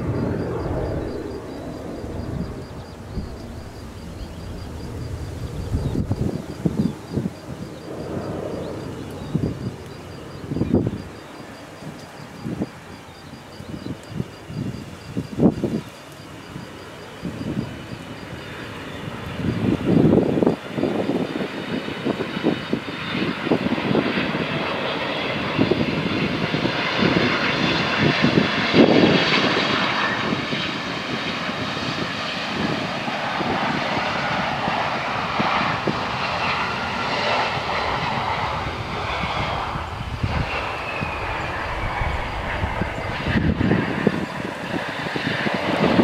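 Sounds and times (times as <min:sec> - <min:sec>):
airliner engines roaring: 0:00.0 - 0:46.0
jet engine whine: 0:00.0 - 0:46.0.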